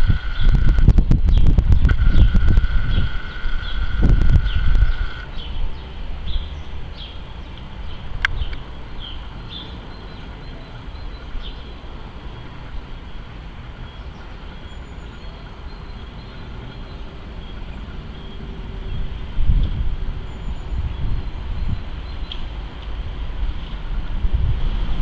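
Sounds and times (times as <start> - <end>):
small birds chirping: 0.0 - 23.0
jet airliner rumble overhead: 0.0 - 25.0.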